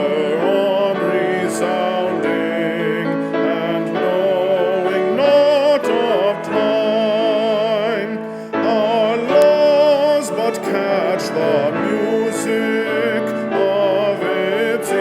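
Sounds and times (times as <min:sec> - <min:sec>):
cello: 0:00.0 - 0:15.0
person singing a hymn: 0:00.0 - 0:15.0
piano: 0:00.0 - 0:15.0.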